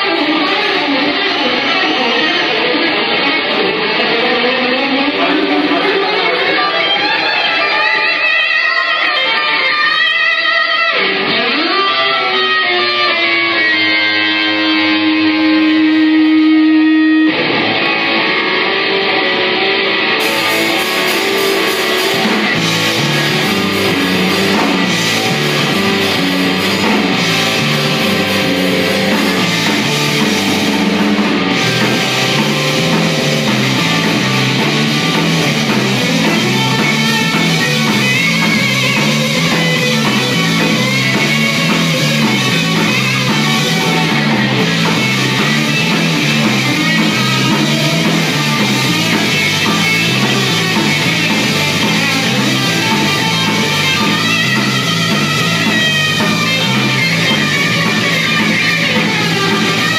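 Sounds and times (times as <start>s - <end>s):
bass guitar: 0.0s - 59.9s
electric guitar: 0.0s - 59.9s
drum kit: 10.9s - 59.9s.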